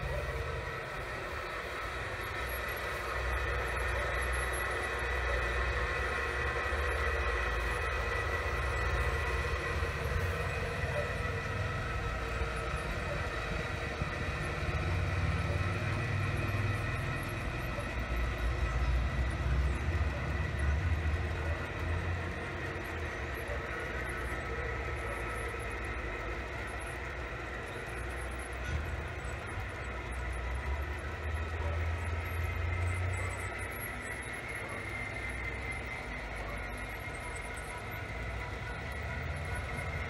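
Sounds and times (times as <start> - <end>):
model train running on track: 0.0 - 40.0.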